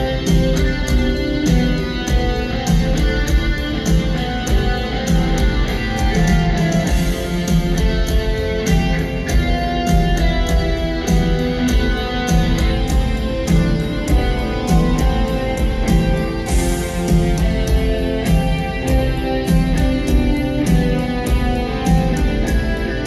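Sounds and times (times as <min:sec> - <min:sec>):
electric guitar notes: 0:00.0 - 0:23.0
rock band over loudspeakers: 0:00.0 - 0:23.0
steady drum beat: 0:00.0 - 0:23.0.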